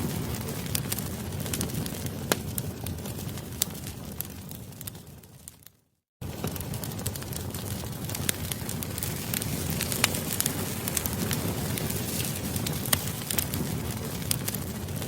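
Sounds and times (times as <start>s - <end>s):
burning wood popping: 0.0s - 15.0s
campfire crackling: 0.0s - 15.0s.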